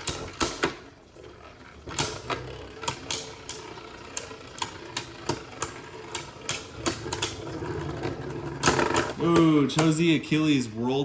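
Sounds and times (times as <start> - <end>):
spinning tops clacking together: 0.0 - 10.0
whir of spinning tops: 0.0 - 10.0.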